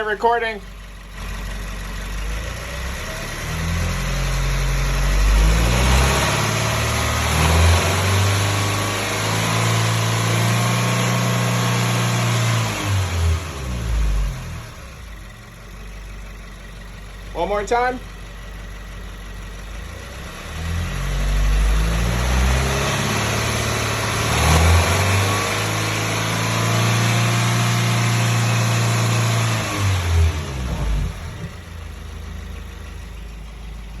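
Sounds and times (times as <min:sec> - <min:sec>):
car engine revving: 0:01.2 - 0:15.5, 0:18.7 - 0:34.0.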